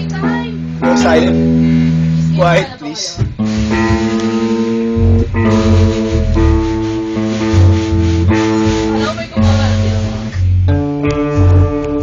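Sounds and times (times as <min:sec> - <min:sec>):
bass line: 0:00.0 - 0:12.0
electric guitars strumming chords: 0:00.0 - 0:12.0.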